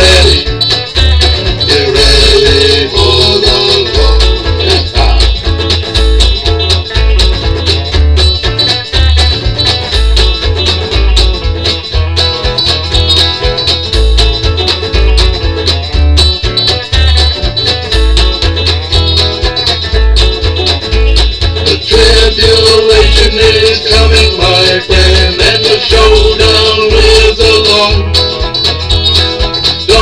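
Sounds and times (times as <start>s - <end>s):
electric guitar strumming: 0.0s - 30.0s
repeating bass line: 0.0s - 30.0s.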